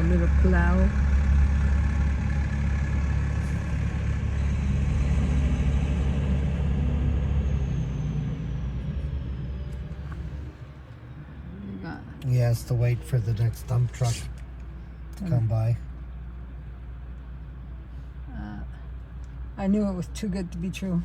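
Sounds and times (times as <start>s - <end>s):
snowplow engine running: 0.0s - 21.0s.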